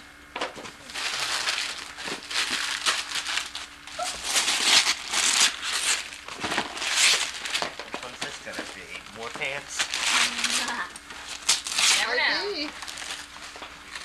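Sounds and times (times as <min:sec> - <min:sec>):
wrapping paper rustling and crumpling: 0:00.6 - 0:14.0.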